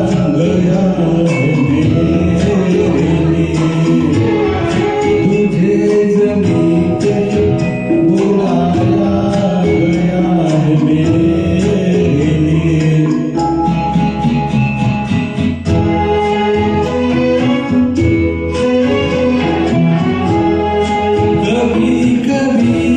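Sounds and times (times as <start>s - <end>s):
karaoke backing track: 0.0s - 22.9s.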